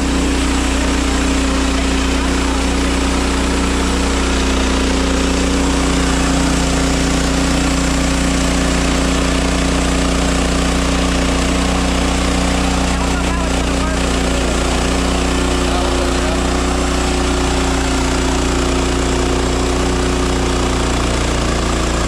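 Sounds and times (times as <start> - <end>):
sawmill engine droning: 0.0 - 22.0.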